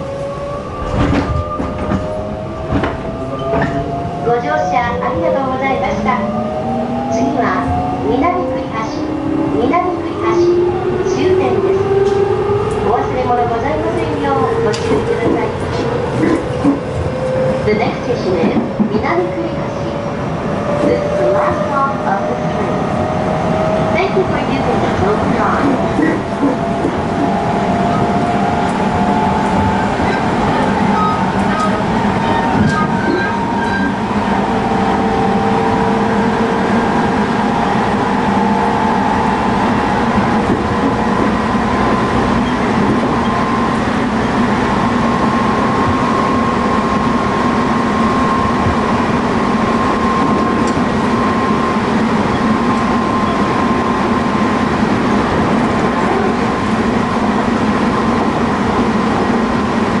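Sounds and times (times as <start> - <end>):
train wheels rolling on rails: 0.0 - 60.0.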